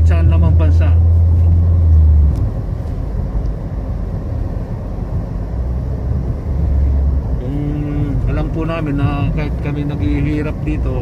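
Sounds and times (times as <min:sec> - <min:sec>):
deeper drone: 0:00.0 - 0:11.0
engine and road rumble: 0:00.0 - 0:11.0.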